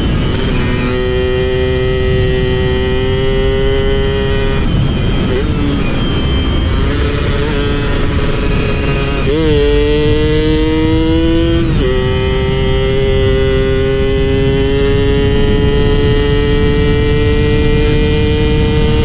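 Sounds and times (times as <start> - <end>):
two-stroke motorcycle engine: 0.0 - 19.0.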